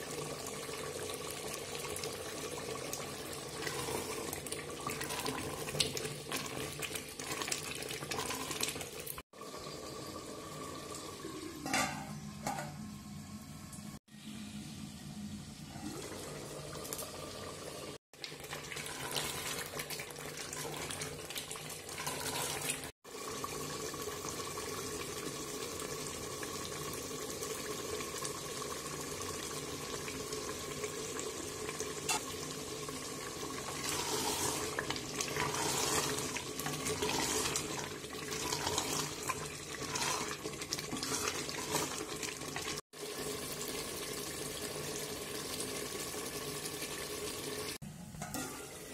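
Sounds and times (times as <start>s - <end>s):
tap water running: 0.0s - 14.0s, 15.5s - 48.9s.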